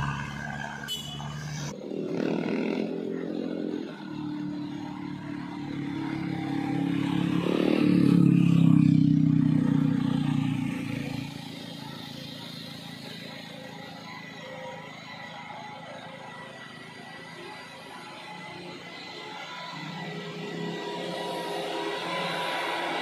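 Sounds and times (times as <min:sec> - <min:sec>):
motorcycle passing: 0:00.0 - 0:23.0.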